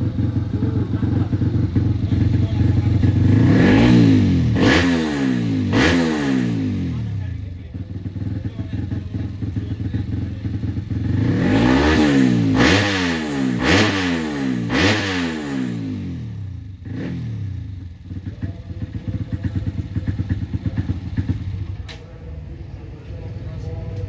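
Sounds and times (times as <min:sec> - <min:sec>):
motorbike engine idling and revving: 0:00.0 - 0:24.0.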